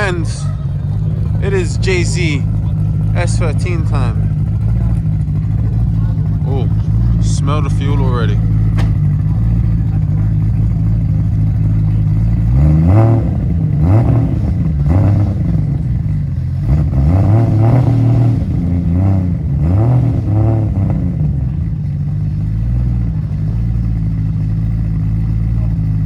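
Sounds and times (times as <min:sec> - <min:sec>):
car engine idling: 0:00.0 - 0:26.0
engine revving: 0:00.0 - 0:26.0.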